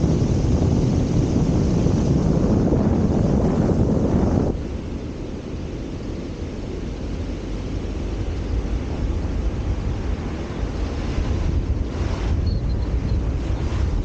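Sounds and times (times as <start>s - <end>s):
low wind rumble on microphone: 0.0s - 14.0s
road noise: 0.0s - 14.0s.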